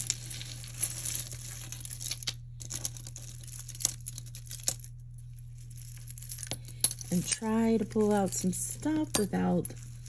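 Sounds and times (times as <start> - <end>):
packing material crinkling: 0.0 - 10.0.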